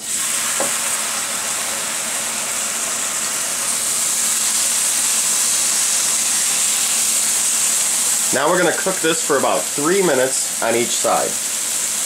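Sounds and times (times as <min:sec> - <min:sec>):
liver sizzling in a frying pan: 0:00.0 - 0:12.0.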